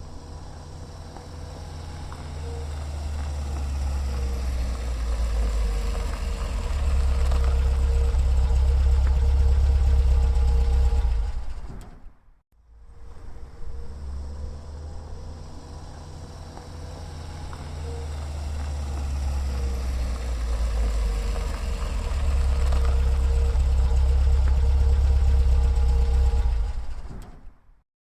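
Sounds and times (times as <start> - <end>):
vehicle engine rumbling: 0.0 - 27.8.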